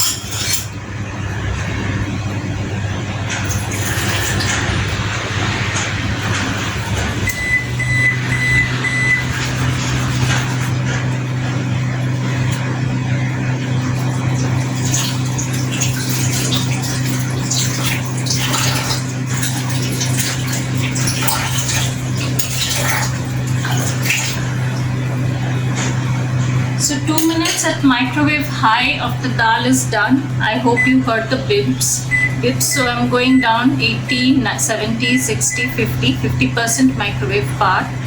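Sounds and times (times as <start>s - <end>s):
microwave oven beeping: 0.0s - 38.0s
steady low hum: 0.0s - 38.0s.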